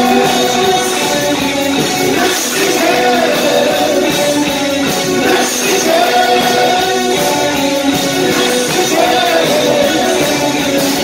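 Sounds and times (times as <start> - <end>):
man singing: 0.0 - 11.0
new wave band playing live: 0.0 - 11.0.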